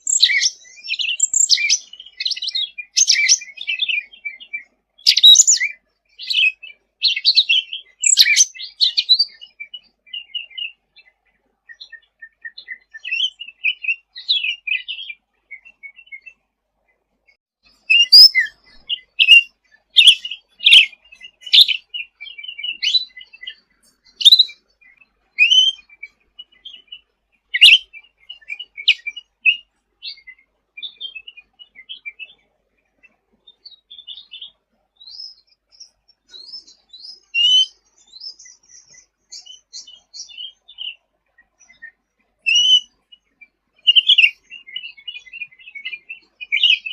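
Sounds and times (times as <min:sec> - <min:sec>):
birdsong chirps and trills: 0:00.0 - 0:46.9.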